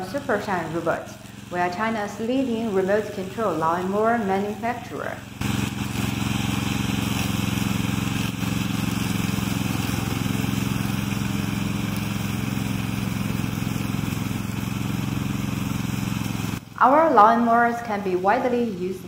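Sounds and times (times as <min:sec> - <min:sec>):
mower cutting dry grass: 0:00.0 - 0:17.0
lawn mower engine running: 0:00.0 - 0:17.3.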